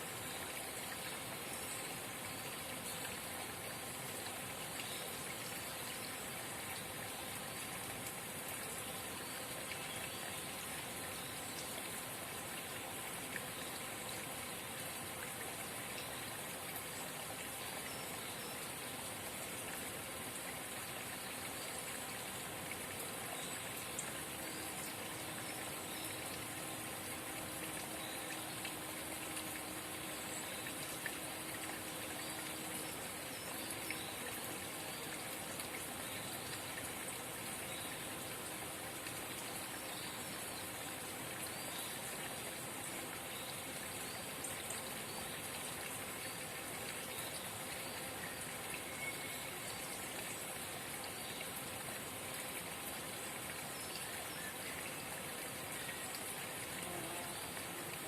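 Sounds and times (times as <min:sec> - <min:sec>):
spring water babbling: 0:00.0 - 0:58.0.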